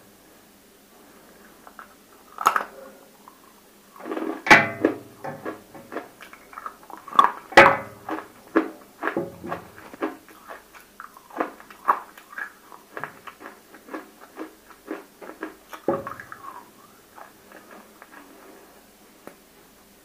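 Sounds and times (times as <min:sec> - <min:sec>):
crisp crunchy chewing: 0:01.4 - 0:19.4.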